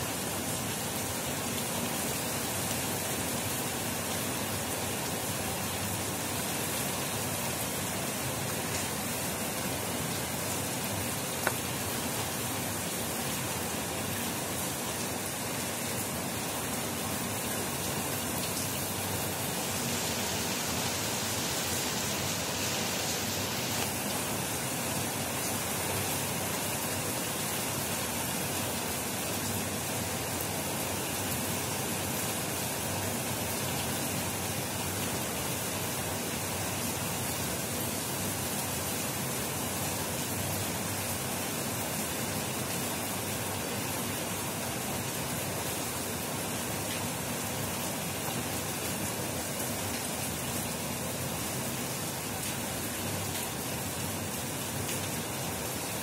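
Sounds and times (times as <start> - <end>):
heavy rain downpour: 0.0 - 56.0.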